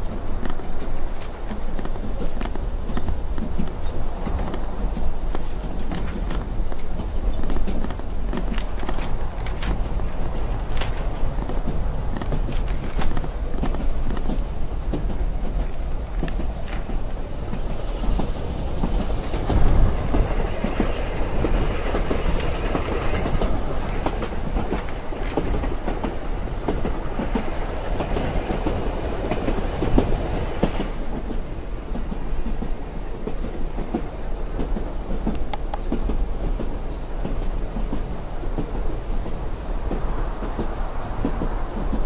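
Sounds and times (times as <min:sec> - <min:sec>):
hiss: 0:00.0 - 0:42.0
train carriage jolt: 0:00.0 - 0:42.0
train wheels rumbling on rails: 0:00.0 - 0:42.0
wheels clacking over rail joints: 0:00.0 - 0:42.0.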